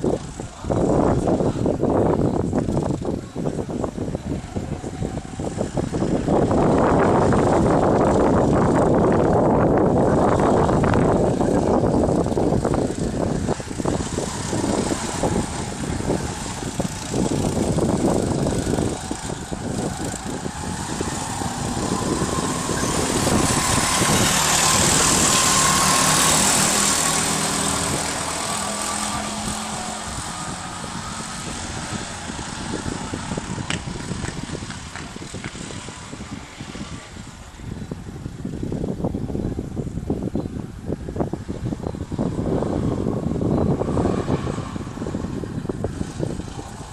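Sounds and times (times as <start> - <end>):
go-kart engines running: 0.0 - 46.9.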